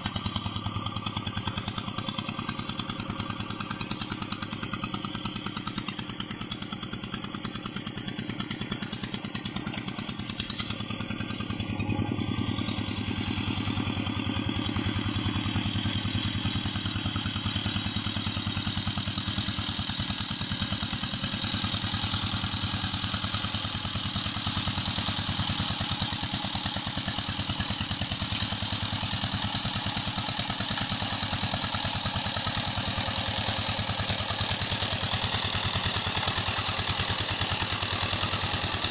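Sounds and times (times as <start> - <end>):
walking tractor engine running: 0.0 - 38.9.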